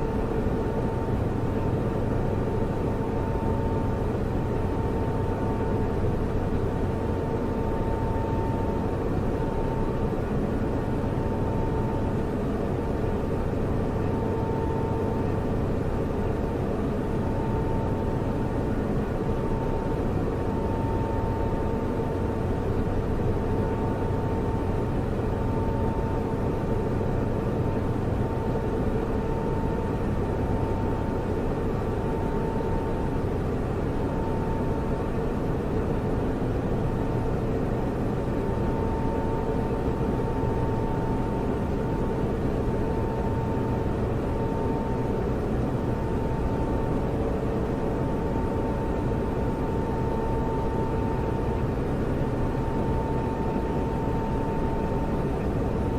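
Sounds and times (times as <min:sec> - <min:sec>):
computer server whirring hum: 0:00.0 - 0:55.9.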